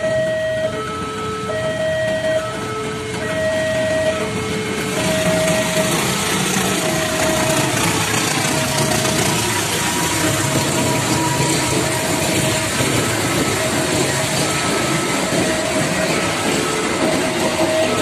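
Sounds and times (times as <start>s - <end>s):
diesel locomotive engine running: 0.0s - 18.0s
level crossing two-note warning tone: 0.0s - 18.0s
train wheels on rails: 0.0s - 18.0s.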